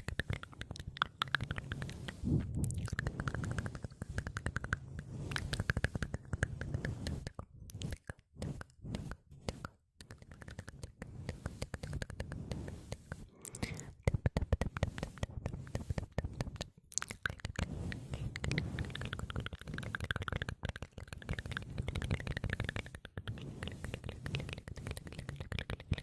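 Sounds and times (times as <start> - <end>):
wet mouth clicks and smacks: 0.0 - 11.0, 13.4 - 26.0.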